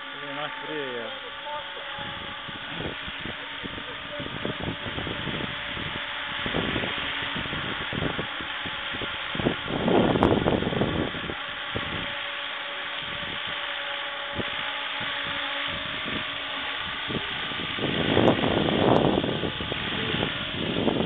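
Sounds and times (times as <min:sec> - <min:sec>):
model helicopter motor whine: 0:00.0 - 0:21.0
wind rumble on microphone: 0:01.9 - 0:21.0.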